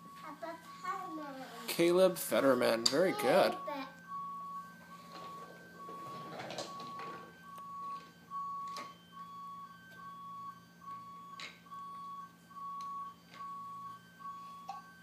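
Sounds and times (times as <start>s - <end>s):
electronic beeping: 0.0s - 15.0s
steady low hum: 0.0s - 15.0s.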